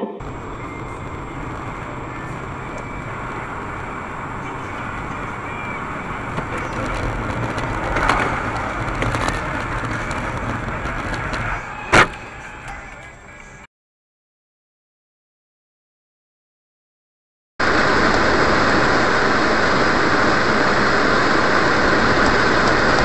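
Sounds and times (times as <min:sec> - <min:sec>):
rush of noise: 0:00.0 - 0:13.7, 0:17.6 - 0:23.0
car road and engine noise: 0:00.2 - 0:13.7, 0:17.6 - 0:23.0.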